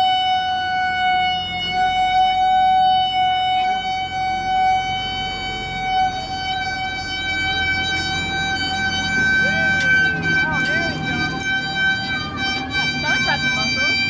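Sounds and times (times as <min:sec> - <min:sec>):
merry-go-round squealing: 0:00.0 - 0:14.0.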